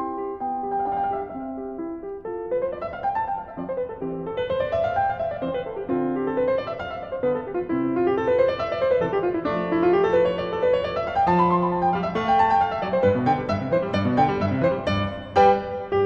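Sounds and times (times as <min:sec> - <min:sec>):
piano playing flowing runs: 0:00.0 - 0:16.0.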